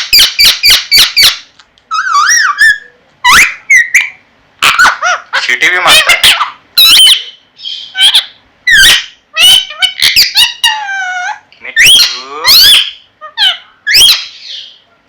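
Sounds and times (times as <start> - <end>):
parrot squawks and whistles: 0.0 - 5.0, 5.9 - 14.8.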